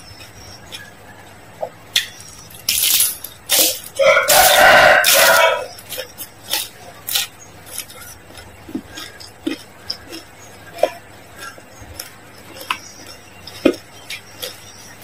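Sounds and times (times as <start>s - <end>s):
chewing fried spring rolls: 0.0s - 15.0s.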